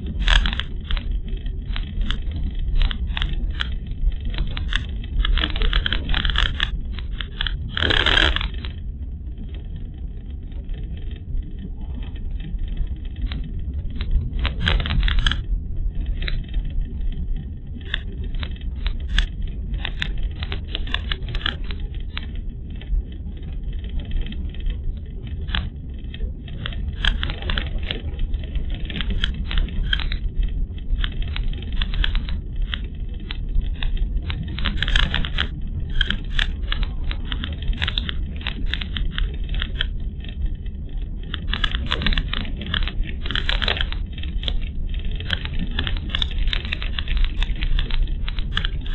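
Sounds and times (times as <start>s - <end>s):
small clicks and rattles: 0.0s - 48.9s.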